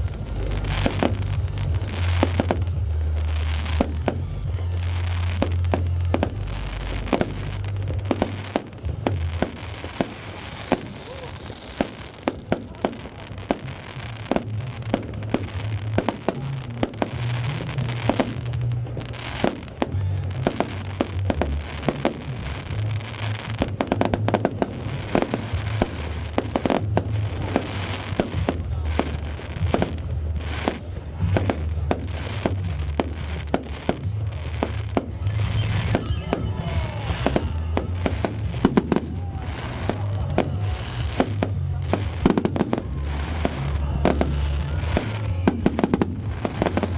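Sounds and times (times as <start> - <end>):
music with heavy bass: 0.0 - 10.9, 12.9 - 46.9
fireworks bangs and crackles: 0.0 - 46.9.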